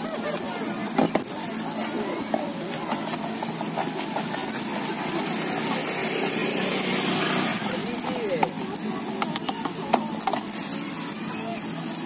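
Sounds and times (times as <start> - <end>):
faint distant voices: 0.0 - 12.0
vehicle engines: 0.0 - 12.0.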